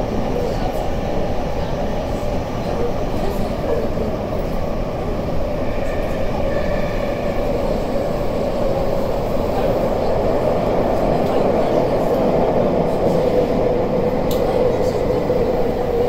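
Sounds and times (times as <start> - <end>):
subway car wheels rumbling on rail: 0.0 - 16.0.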